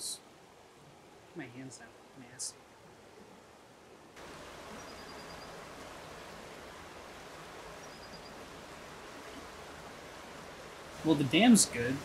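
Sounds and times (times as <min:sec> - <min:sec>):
river rushing in flood: 0:00.0 - 0:12.0.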